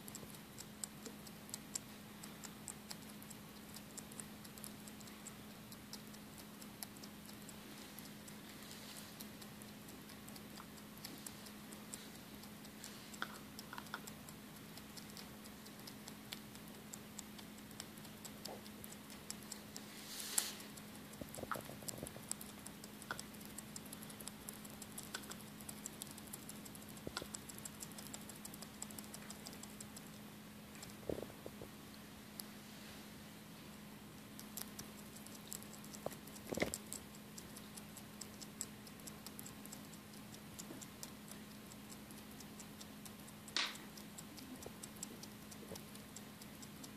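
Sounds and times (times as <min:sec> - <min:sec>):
bat chewing clicks and crunches: 0:00.0 - 0:32.6, 0:33.8 - 0:46.9
steady low hum: 0:00.0 - 0:46.9.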